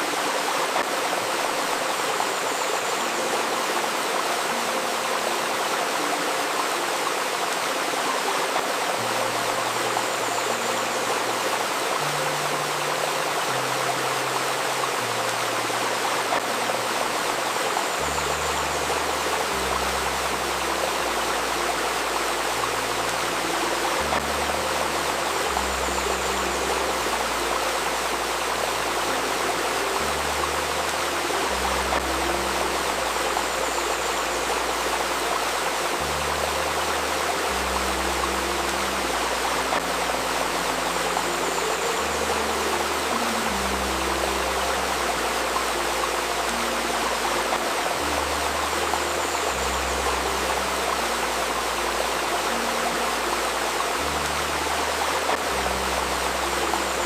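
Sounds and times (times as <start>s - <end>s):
river stream babbling: 0.0s - 57.0s
soft low sustained music notes: 0.0s - 57.0s.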